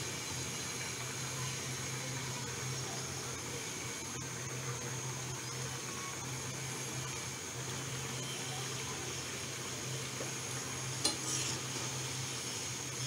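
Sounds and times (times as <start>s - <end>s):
curry bubbling and sizzling: 0.0s - 13.0s.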